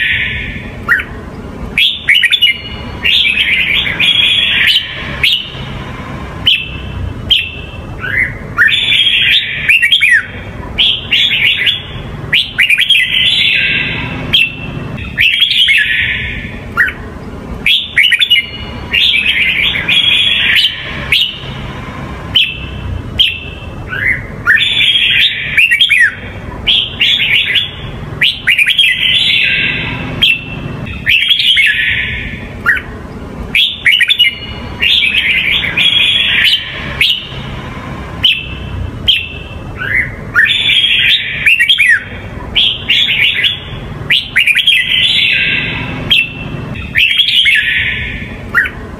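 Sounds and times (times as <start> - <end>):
bird singing whistled phrases: 1.8 - 5.7, 6.4 - 17.0, 17.7 - 21.5, 22.3 - 32.9, 33.5 - 37.4, 38.2 - 48.8.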